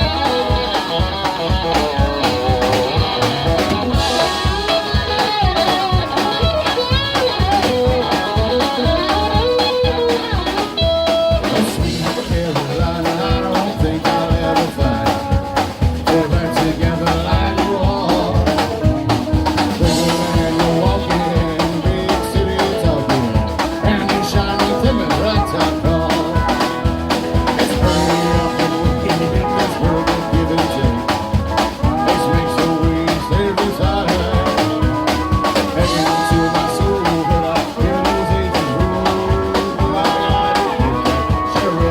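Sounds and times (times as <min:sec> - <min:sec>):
drum kit steady beat: 0:00.0 - 0:41.9
guitar: 0:00.0 - 0:41.9
live blues band: 0:00.0 - 0:41.9.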